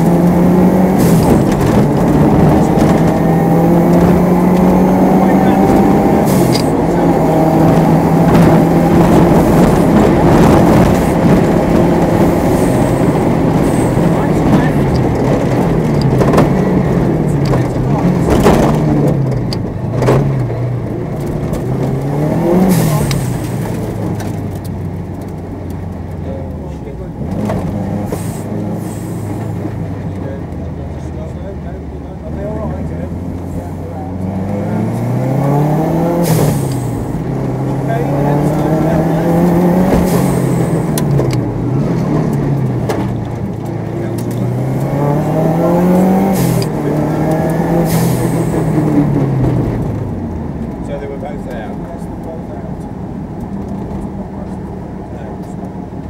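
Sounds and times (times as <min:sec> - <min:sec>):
rally car engine from inside cabin: 0:00.0 - 0:56.0
sharp exhaust cracks: 0:00.0 - 0:56.0.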